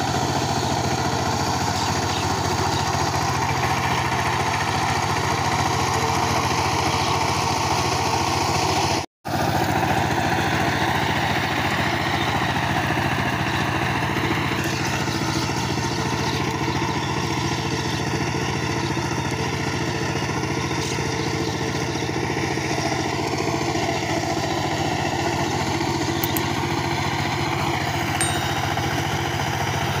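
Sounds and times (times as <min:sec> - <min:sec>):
diesel tiller engine running: 0:00.0 - 0:30.0.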